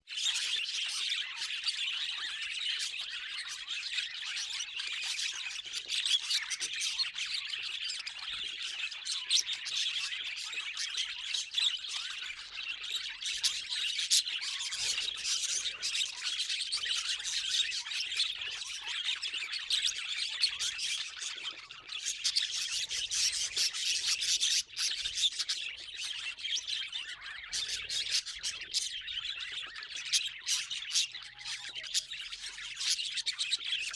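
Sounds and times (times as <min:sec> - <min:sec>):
budgerigars chattering and chirping: 0:00.1 - 0:33.9.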